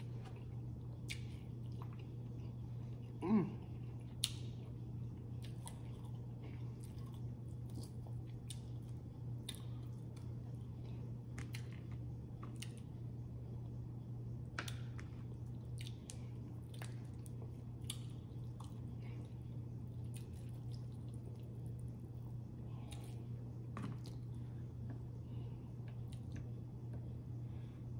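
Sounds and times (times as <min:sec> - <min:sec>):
person chewing food: 0:00.0 - 0:12.9, 0:14.6 - 0:25.1, 0:25.8 - 0:27.2
low hum: 0:00.0 - 0:27.9.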